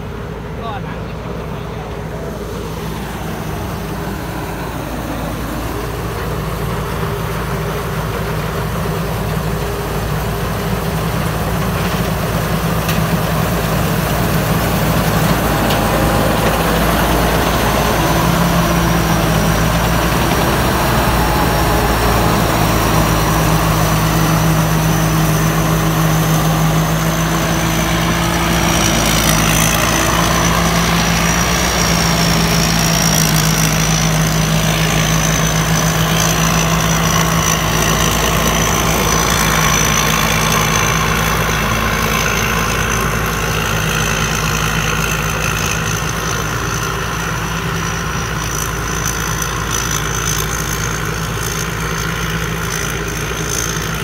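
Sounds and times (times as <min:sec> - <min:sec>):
combine harvester engine: 0:00.0 - 0:54.0
high machinery whine: 0:00.0 - 0:54.0.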